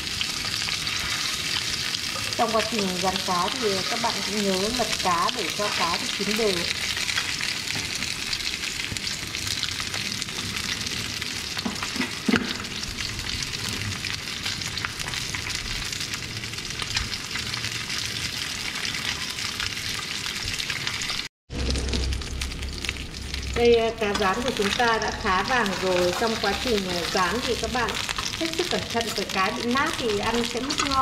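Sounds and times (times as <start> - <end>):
fish sizzling in oil: 0.0 - 31.0.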